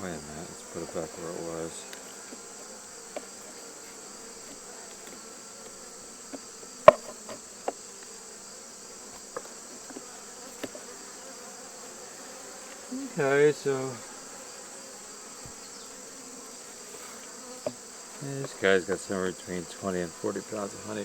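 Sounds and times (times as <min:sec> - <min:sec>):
bees humming: 0:00.0 - 0:21.0
wooden hive frames knocking: 0:00.0 - 0:21.0.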